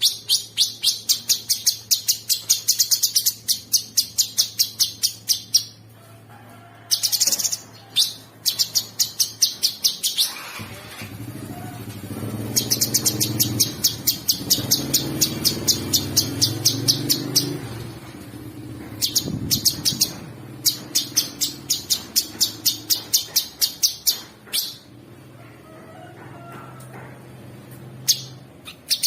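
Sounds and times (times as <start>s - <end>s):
bird singing rapid chirps: 0.0s - 5.9s, 6.9s - 10.6s, 11.7s - 24.9s, 27.9s - 29.0s.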